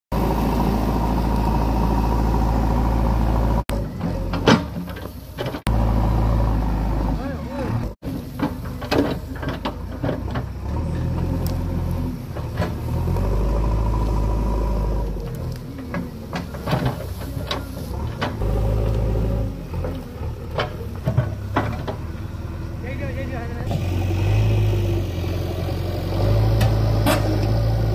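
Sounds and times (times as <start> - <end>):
diesel engine running: 0.1 - 27.9.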